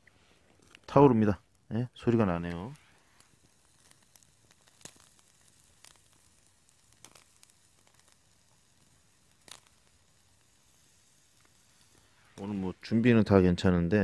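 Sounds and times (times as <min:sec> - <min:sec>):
sharp pops and crackles: 0:00.0 - 0:13.6
steak sizzling on a grill: 0:00.6 - 0:13.4.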